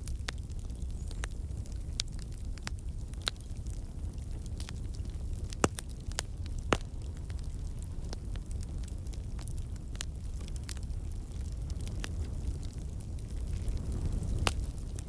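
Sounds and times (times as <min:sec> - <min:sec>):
campfire crackling and popping: 0:00.0 - 0:15.0
flames low rumble: 0:00.0 - 0:15.0.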